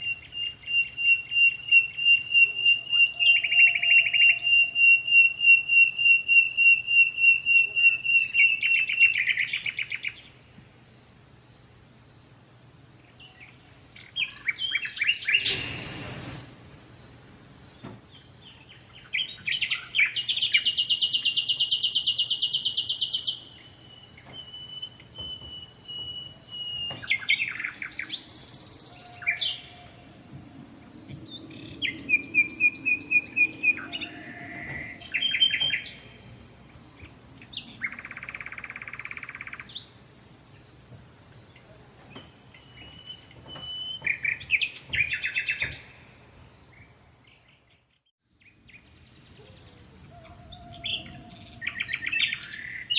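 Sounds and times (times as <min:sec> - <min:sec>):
birds singing and calling: 0:00.0 - 0:10.4, 0:13.0 - 0:16.2, 0:17.7 - 0:40.0, 0:41.0 - 0:46.0, 0:46.7 - 0:52.9.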